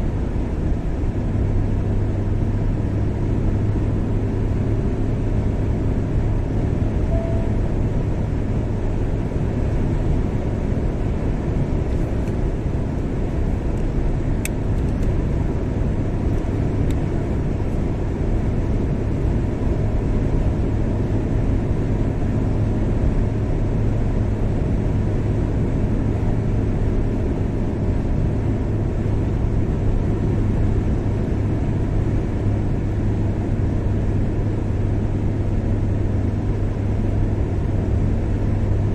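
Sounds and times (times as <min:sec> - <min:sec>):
car driving on highway: 0:00.0 - 0:38.9.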